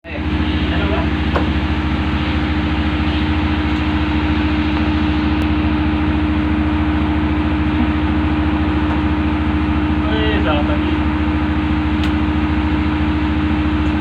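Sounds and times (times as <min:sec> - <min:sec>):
ship engine humming: 0:00.0 - 0:14.0.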